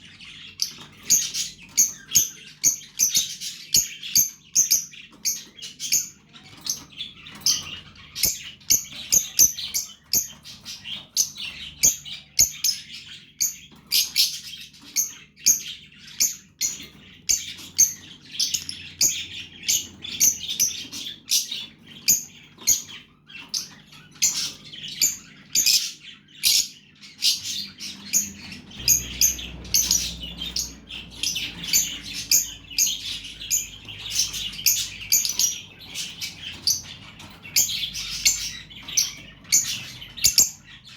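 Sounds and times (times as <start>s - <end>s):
bird chicks chirping: 0.0s - 40.9s.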